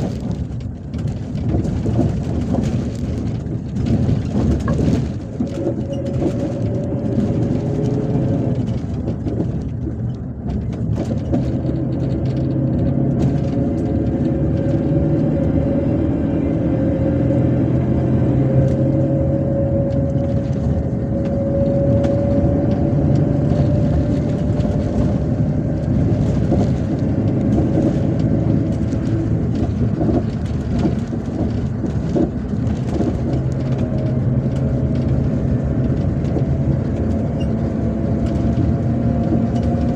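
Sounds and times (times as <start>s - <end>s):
bus engine running: 0.0s - 39.9s
road noise: 0.0s - 39.9s.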